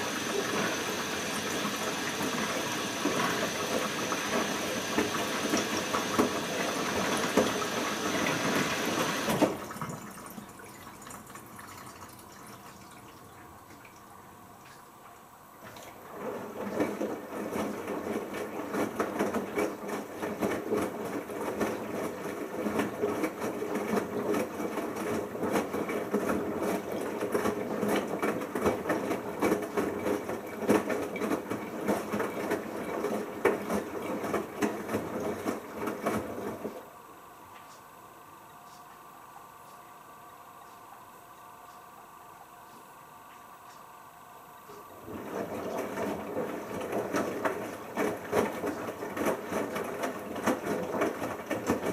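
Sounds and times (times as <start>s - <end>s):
washing machine drum clattering: 0.0s - 14.0s, 15.6s - 36.8s, 45.0s - 51.9s.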